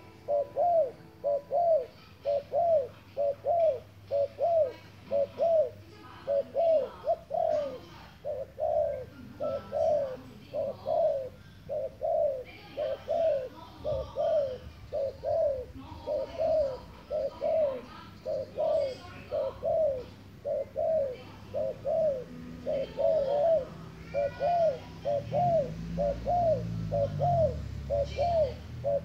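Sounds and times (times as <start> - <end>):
dove cooing: 0.0 - 29.0.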